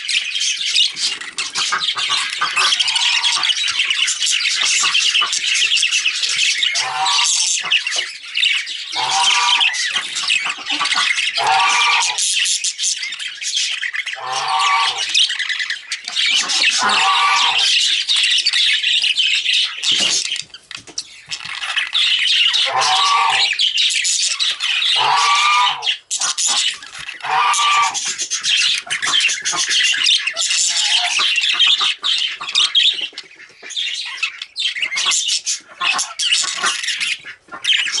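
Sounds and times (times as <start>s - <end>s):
budgerigars chattering and warbling: 0.0s - 38.0s
lower-pitched bird calls: 0.0s - 38.0s.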